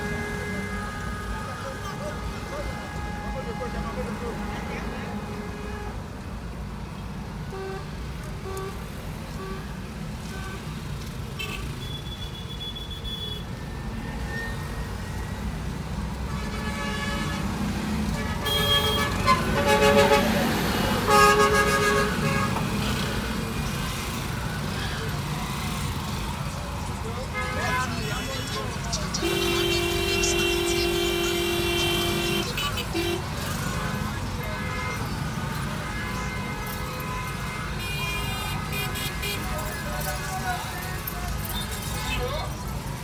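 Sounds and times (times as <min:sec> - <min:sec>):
vehicle horns honking: 0:00.0 - 0:06.2, 0:07.4 - 0:13.6, 0:16.2 - 0:26.1, 0:27.0 - 0:42.4
engine and road rumble: 0:00.0 - 0:43.0.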